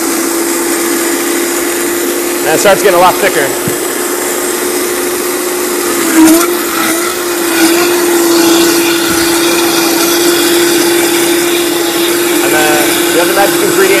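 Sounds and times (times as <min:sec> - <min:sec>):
electric blender running: 0:00.0 - 0:14.0.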